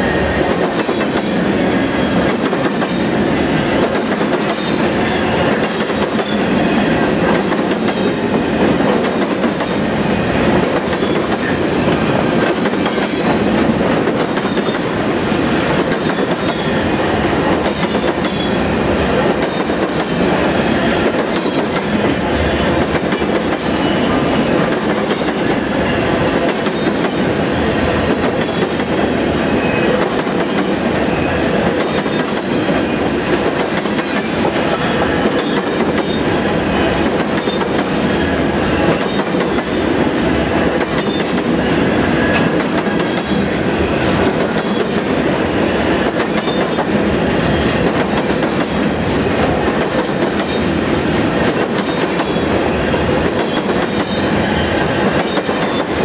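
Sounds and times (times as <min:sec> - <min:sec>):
freight train rolling by: 0:00.0 - 0:56.0.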